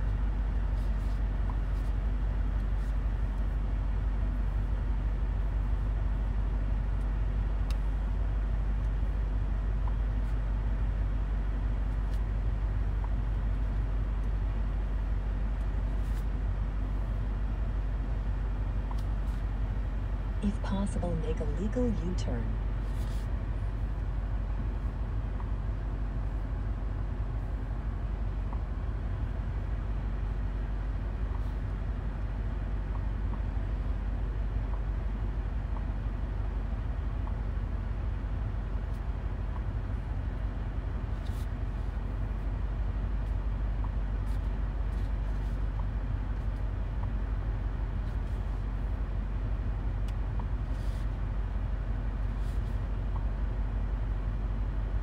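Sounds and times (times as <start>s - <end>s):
car engine drone inside cabin: 0.0s - 55.0s.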